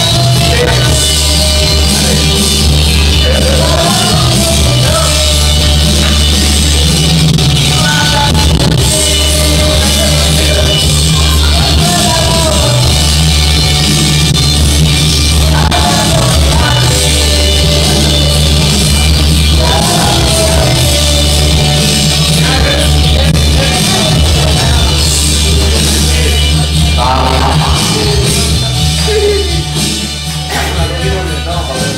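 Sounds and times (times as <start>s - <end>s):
man singing into a microphone: 0.0s - 13.6s, 15.3s - 29.8s, 30.4s - 31.9s
karaoke backing track with heavy bass: 0.0s - 31.9s.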